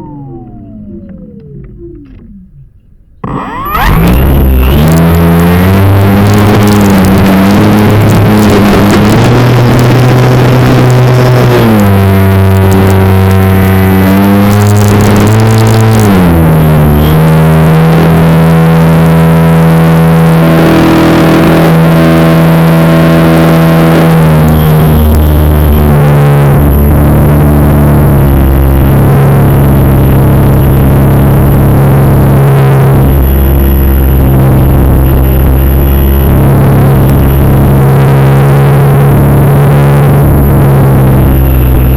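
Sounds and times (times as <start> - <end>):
model plane motor running: 0.0 - 2.6, 3.2 - 41.9.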